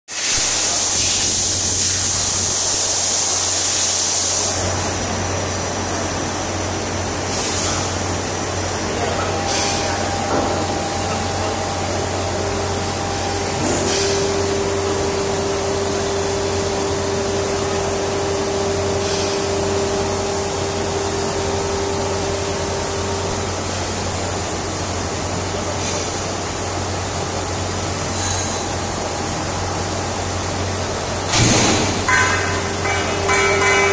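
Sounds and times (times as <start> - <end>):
machine mechanical hum: 0.1 - 33.9
hydraulic whine: 0.3 - 33.9.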